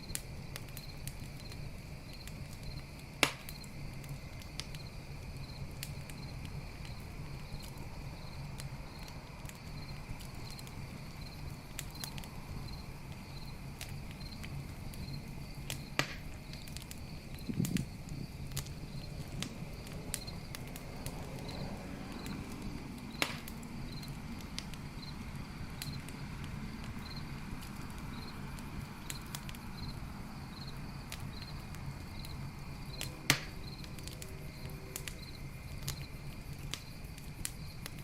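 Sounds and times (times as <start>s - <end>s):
campfire crackling: 0.0s - 38.0s
cricket chirping: 0.0s - 38.0s.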